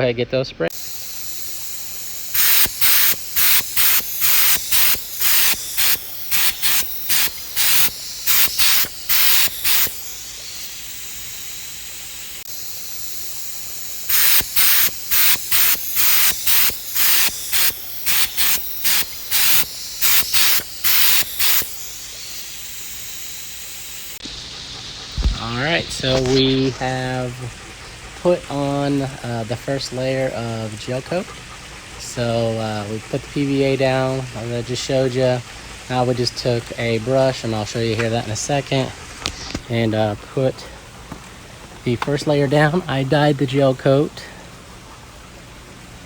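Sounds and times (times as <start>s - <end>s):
spray gun hissing bursts: 0.7s - 45.2s.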